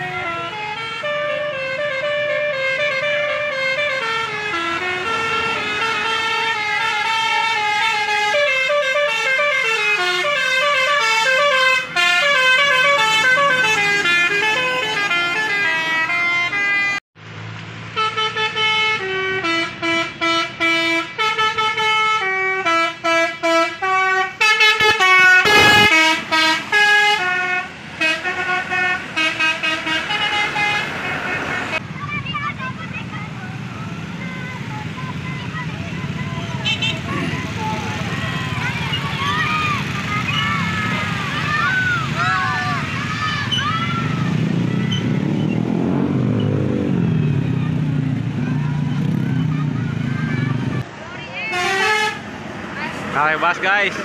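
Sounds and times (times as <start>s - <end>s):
multi-tone bus horn melody: 0.0s - 17.0s, 17.9s - 31.9s, 33.4s - 52.4s.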